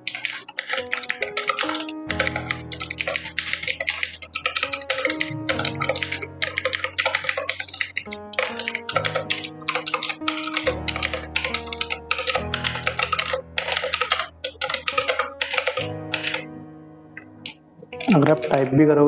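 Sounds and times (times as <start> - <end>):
mechanical keyboard typing: 0.0 - 16.5, 17.4 - 18.8
background music: 0.0 - 19.0.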